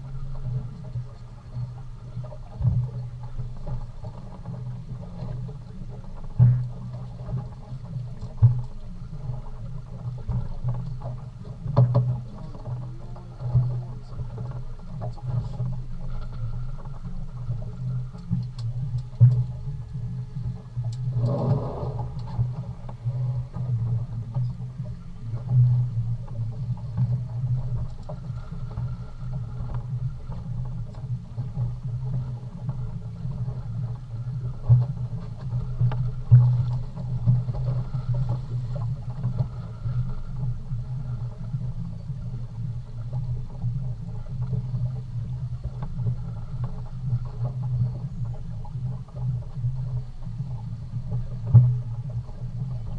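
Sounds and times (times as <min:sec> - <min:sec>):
boat motor humming: 0:00.0 - 0:52.9.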